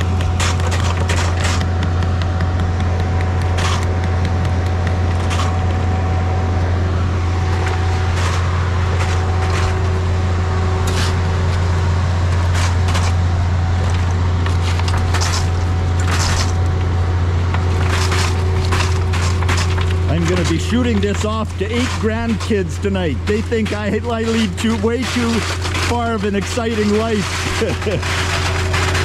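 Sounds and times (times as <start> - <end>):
pump truck engine humming: 0.0 - 29.0.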